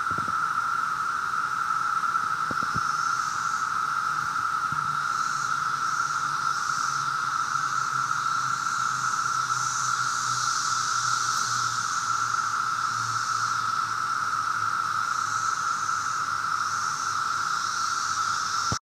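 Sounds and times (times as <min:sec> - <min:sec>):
cicadas droning: 0:00.0 - 0:18.8
high cicada hiss: 0:00.0 - 0:18.8.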